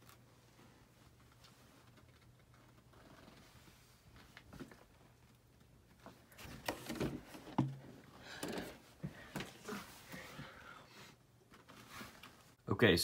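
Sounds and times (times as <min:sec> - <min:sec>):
small room background noise: 0:00.0 - 0:13.0.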